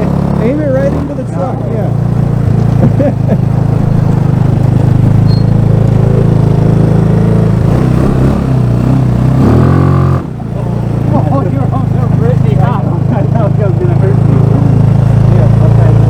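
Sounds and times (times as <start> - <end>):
scooter engine revving high: 0.0 - 16.0.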